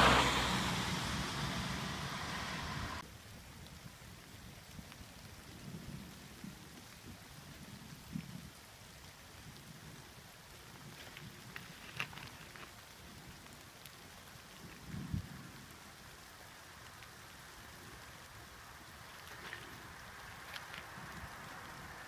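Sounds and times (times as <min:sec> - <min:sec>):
light rain hiss: 0:00.0 - 0:22.0
raindrop ticks: 0:03.2 - 0:22.0.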